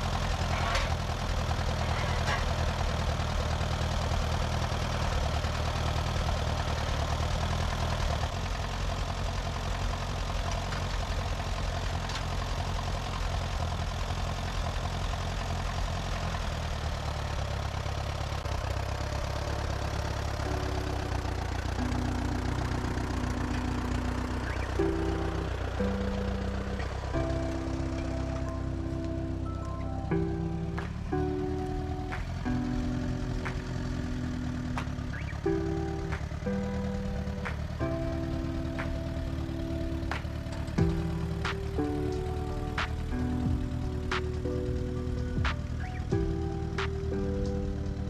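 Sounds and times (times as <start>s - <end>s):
sawmill engine running: 0.0s - 48.0s.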